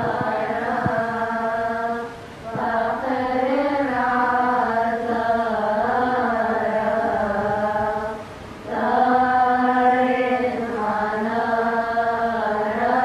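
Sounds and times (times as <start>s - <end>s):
woman chanting a hymn: 0.0s - 13.0s.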